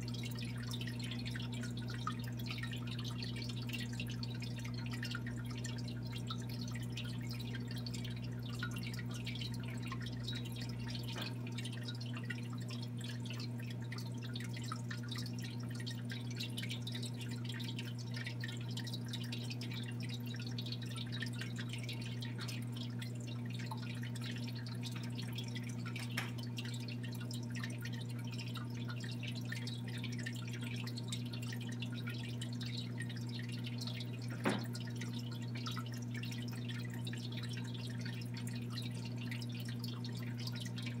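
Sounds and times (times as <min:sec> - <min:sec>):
aquarium water trickling and bubbling: 0:00.0 - 0:41.0.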